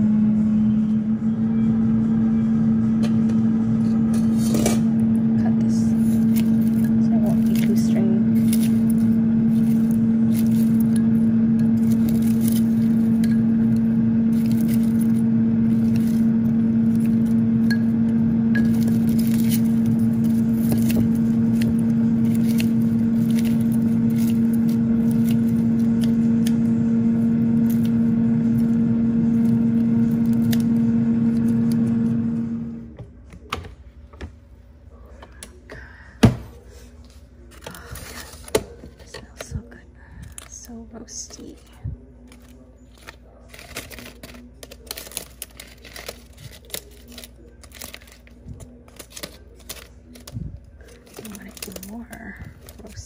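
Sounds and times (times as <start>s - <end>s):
air fryer humming: 0.0s - 53.0s.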